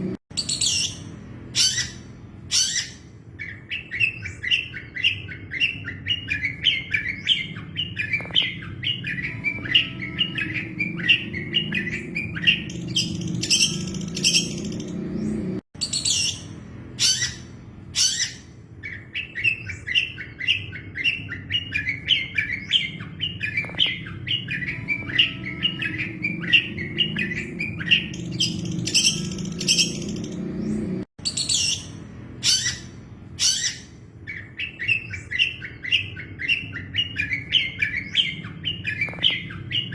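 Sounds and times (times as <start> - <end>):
bird singing with harsh shrieks: 0.3 - 39.9.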